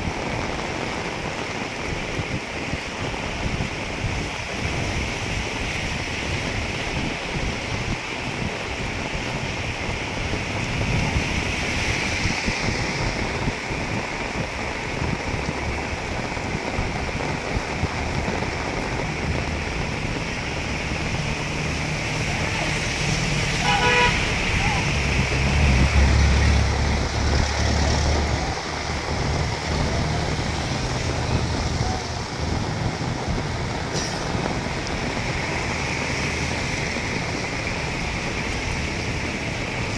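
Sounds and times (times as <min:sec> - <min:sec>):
heavy rain on pavement: 0:00.0 - 0:39.9
wind rumbling on microphone: 0:00.0 - 0:39.9.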